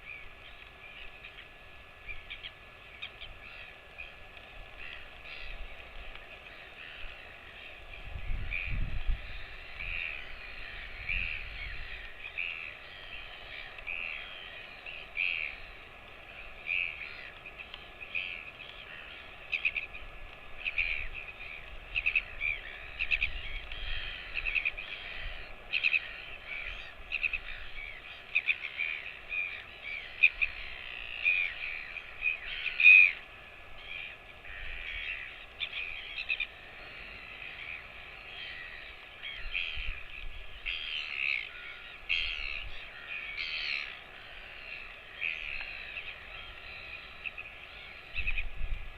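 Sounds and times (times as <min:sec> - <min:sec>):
birds calling: 0:00.0 - 0:48.9.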